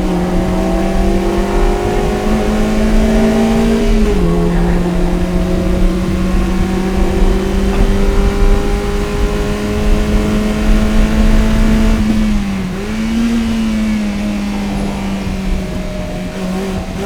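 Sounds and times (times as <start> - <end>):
car engine pulling under load: 0.0 - 17.0.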